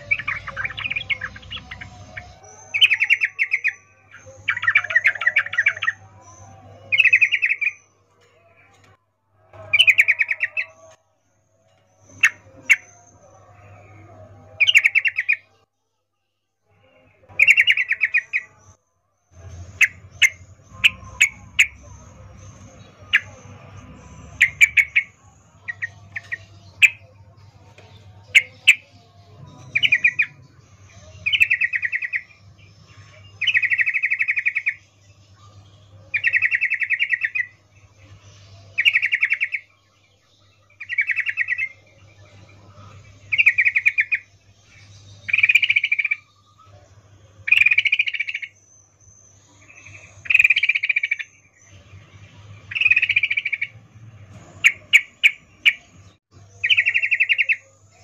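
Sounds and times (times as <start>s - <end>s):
bird chirping and trilling: 0.0s - 15.6s, 16.8s - 58.0s.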